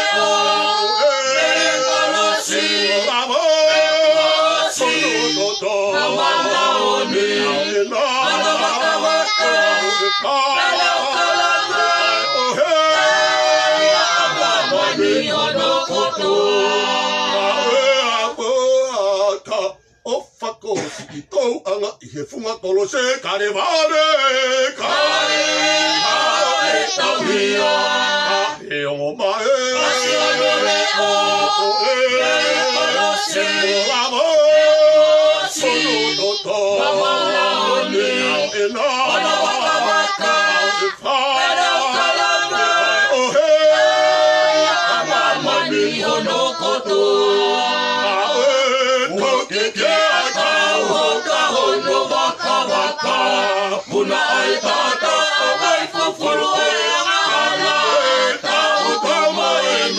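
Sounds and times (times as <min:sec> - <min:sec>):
group singing unaccompanied: 0:00.0 - 0:19.8, 0:22.9 - 0:59.9.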